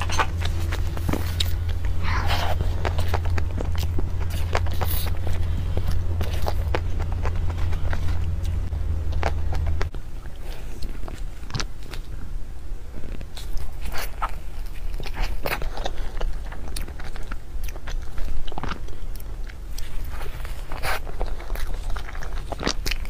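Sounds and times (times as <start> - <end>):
chewing pastry: 0.0 - 23.0
crackles of crumbly pastry shell: 0.0 - 23.0
low hum: 0.0 - 23.0.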